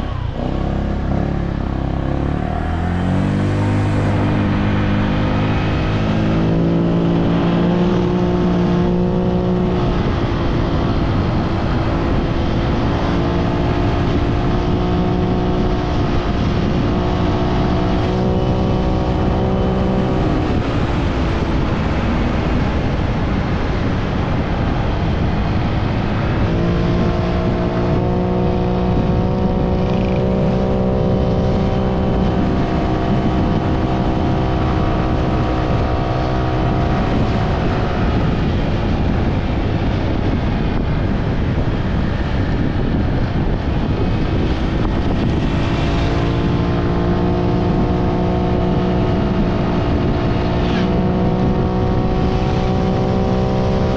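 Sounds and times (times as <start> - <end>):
road rumble: 0.0 - 53.9
wind: 0.0 - 53.9.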